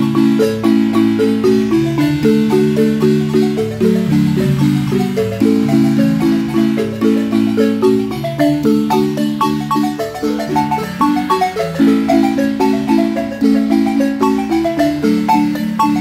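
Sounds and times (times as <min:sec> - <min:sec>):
marimba playing: 0:00.0 - 0:16.0.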